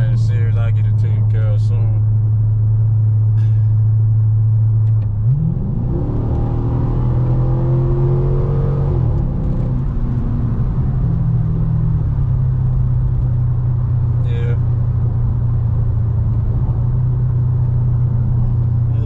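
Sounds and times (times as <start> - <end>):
car engine exhaust accelerating: 0.0 - 19.0.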